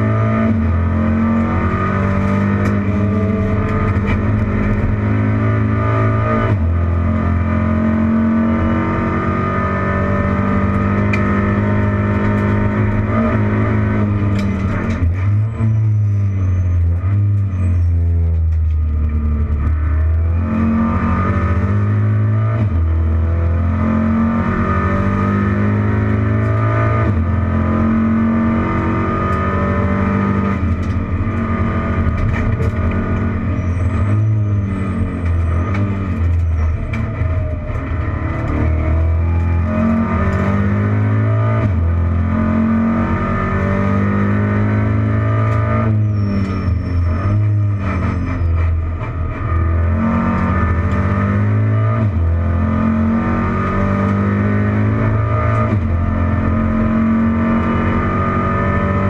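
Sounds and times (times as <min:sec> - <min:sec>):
racing car engine revving through gears: 0:00.0 - 0:59.0.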